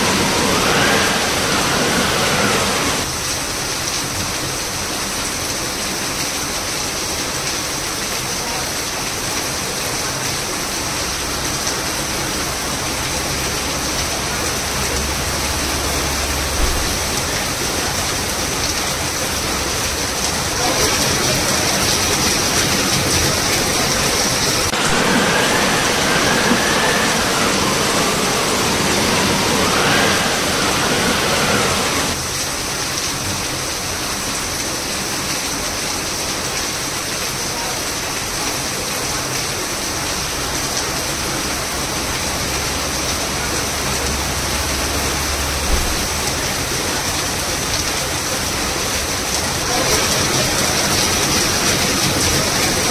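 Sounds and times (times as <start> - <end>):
heavy rain on pavement: 0.0 - 52.9.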